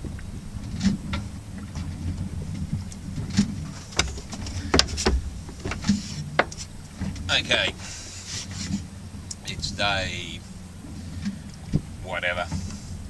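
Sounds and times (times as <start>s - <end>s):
hull knocking and creaking: 0.0s - 13.0s
steady low rumble: 0.0s - 13.0s.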